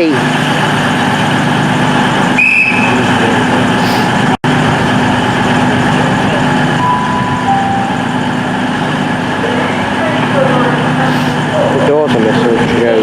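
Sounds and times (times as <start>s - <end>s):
diesel train engines idling: 0.0s - 13.0s.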